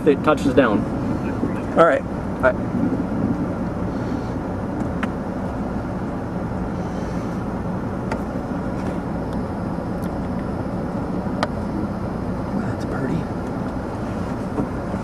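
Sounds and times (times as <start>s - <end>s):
vehicle running: 0.0s - 15.0s
wind rumble: 0.0s - 15.0s.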